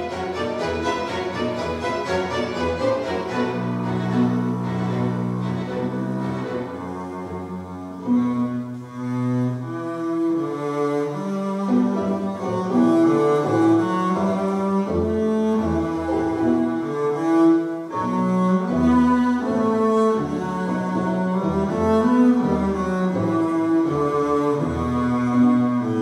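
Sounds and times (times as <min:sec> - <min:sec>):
bowed low strings playing: 0:00.0 - 0:26.0.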